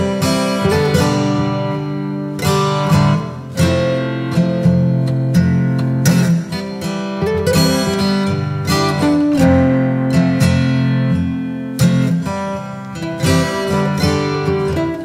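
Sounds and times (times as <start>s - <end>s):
acoustic guitar picked and strummed: 0.0s - 15.0s.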